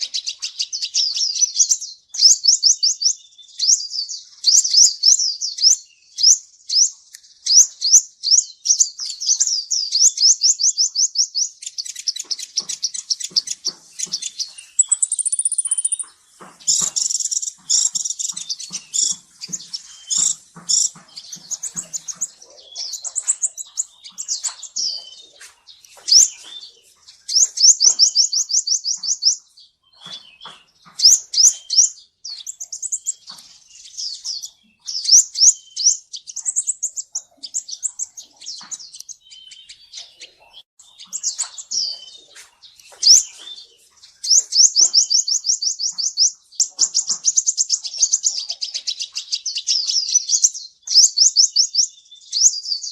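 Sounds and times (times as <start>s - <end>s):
bird singing chirps and trills: 0.0s - 52.9s.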